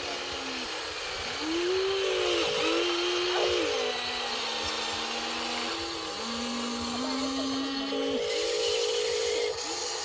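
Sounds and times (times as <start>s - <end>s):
small electric gear motors whining: 0.0s - 10.0s.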